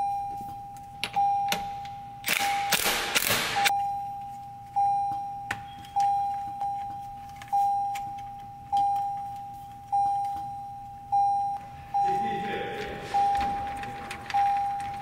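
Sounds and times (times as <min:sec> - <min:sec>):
dashboard warning chime dinging: 0:00.0 - 0:02.2, 0:03.7 - 0:15.0.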